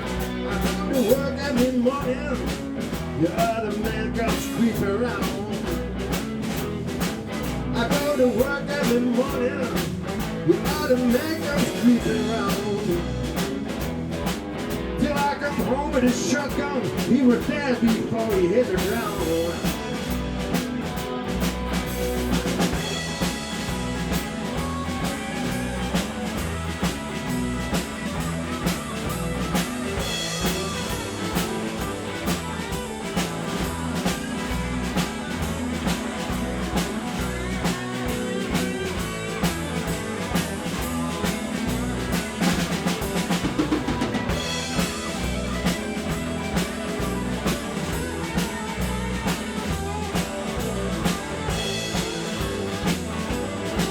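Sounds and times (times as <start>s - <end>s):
blues band instrumental: 0.0s - 53.9s
drum kit steady beat: 0.0s - 53.9s.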